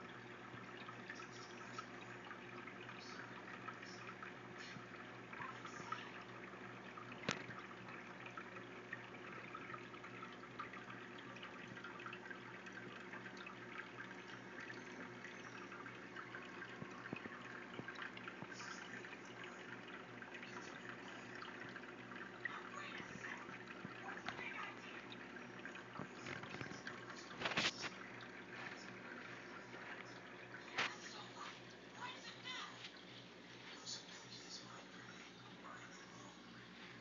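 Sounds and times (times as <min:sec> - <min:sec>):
aquarium water trickling: 0:00.0 - 0:37.0
faint hum: 0:00.0 - 0:37.0.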